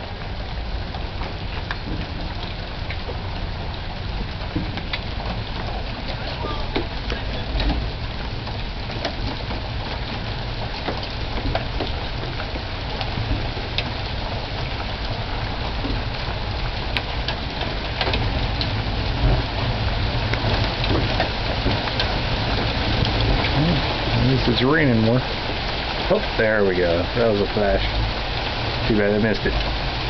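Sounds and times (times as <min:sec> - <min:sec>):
raindrops ticking close by: 0:00.0 - 0:30.0
steady rain pouring: 0:00.0 - 0:30.0.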